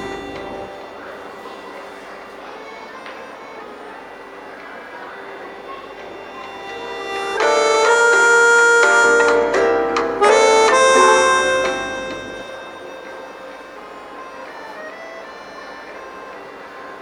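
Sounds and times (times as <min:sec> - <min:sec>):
reedy sustained chords: 0:00.0 - 0:16.6.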